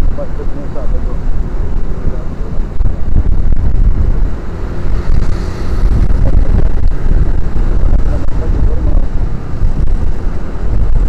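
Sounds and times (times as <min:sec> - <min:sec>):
motorcycle engine and road noise: 0:00.0 - 0:11.0
wind buffeting microphone: 0:00.0 - 0:11.0.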